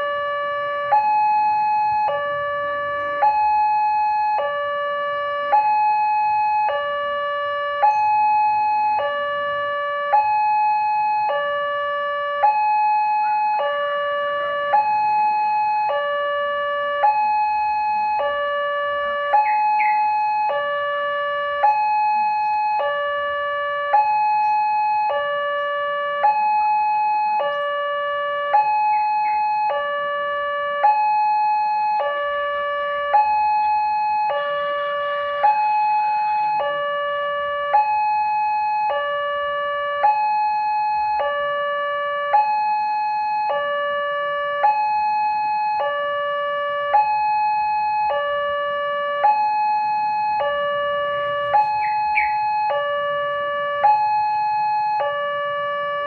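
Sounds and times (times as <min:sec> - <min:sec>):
level crossing two-tone alarm: 0:00.0 - 0:56.0.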